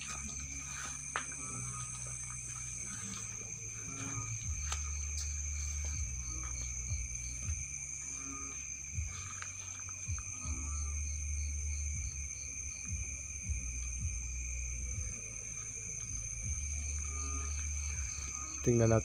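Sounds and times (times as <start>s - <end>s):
crickets trilling: 0.0s - 19.0s
faint pulsing chirp: 0.0s - 19.0s
low rumble: 0.0s - 19.0s.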